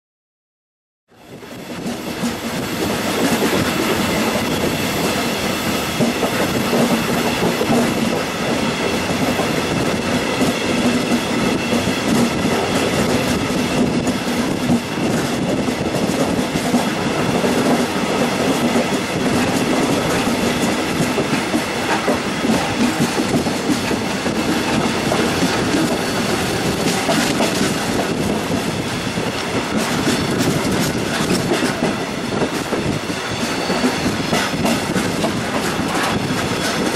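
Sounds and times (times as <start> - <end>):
train wheels rumbling on track: 1.1 - 36.9
clickety-clack of rail joints: 1.2 - 36.9.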